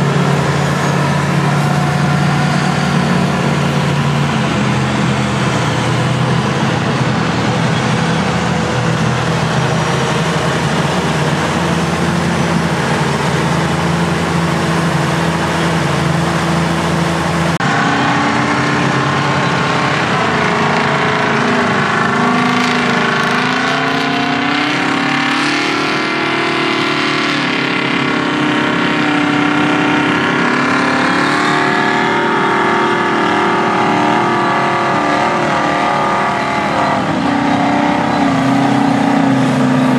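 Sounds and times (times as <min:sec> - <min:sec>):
haul truck diesel engines pulling: 0:00.0 - 0:39.9
motor scraper diesel engine running: 0:00.0 - 0:39.9.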